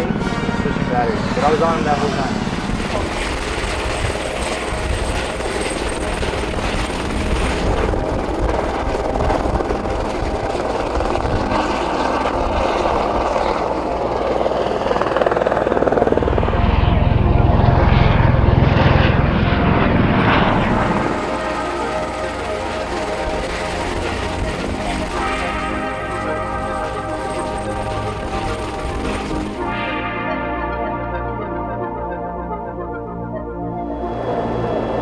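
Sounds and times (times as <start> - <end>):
helicopter rotor noise: 0.0 - 29.9.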